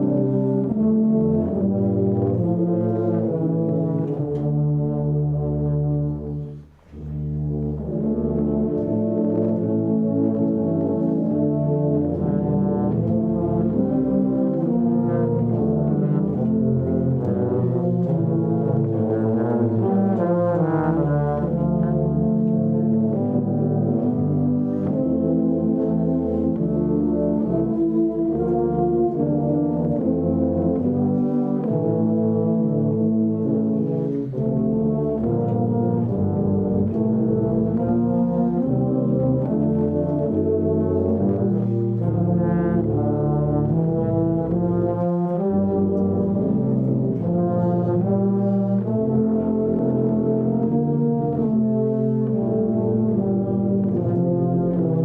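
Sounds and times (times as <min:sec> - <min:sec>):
brass ensemble playing chords: 0:00.0 - 0:55.0.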